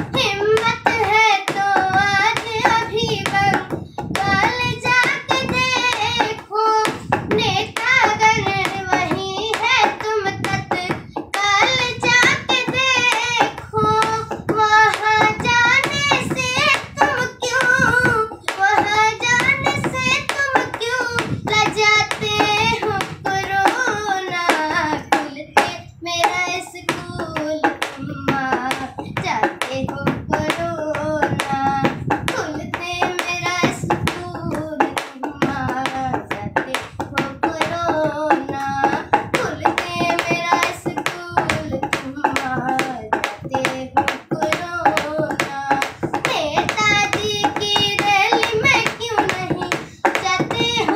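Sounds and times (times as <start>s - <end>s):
boy singing: 0.0s - 50.9s
sharp rhythmic taps: 0.0s - 50.9s.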